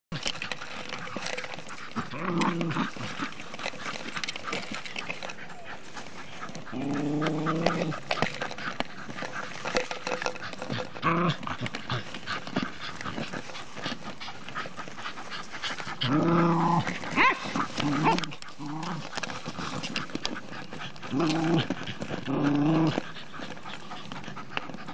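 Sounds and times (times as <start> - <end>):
dogs growling: 0.1 - 24.9.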